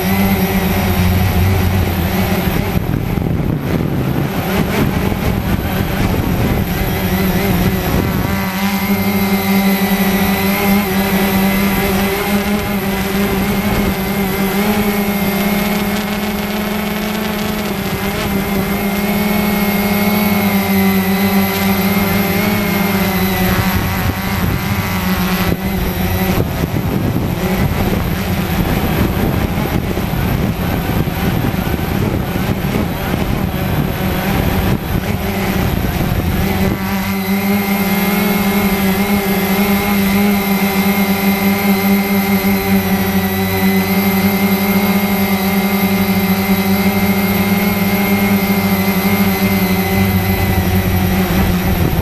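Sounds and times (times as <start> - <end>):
quadcopter motors whirring: 0.0 - 52.0.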